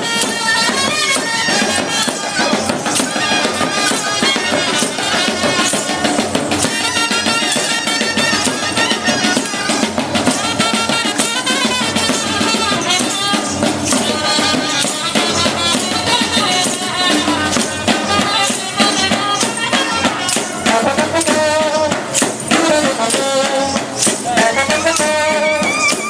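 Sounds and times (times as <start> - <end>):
fast percussion strikes: 0.0 - 26.0.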